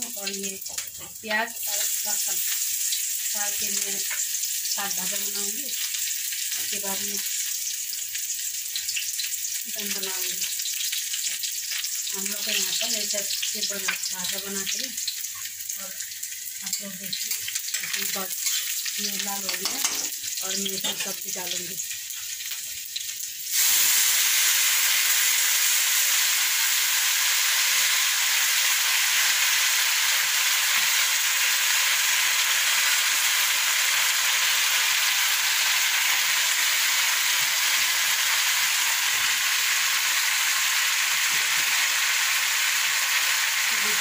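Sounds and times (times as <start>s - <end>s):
greens sizzling in hot oil: 0.0s - 44.0s.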